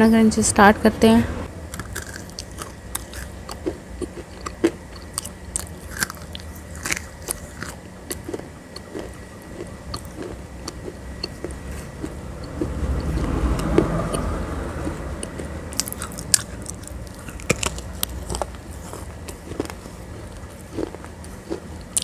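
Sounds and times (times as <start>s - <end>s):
crunchy biting and chewing: 1.6s - 22.0s.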